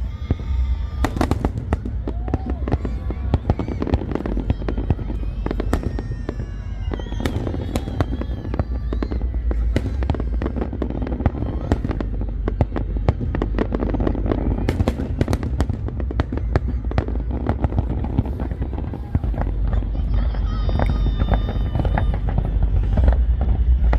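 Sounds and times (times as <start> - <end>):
fireworks bangs and crackles: 0.0 - 23.9
low rumble: 0.0 - 23.9.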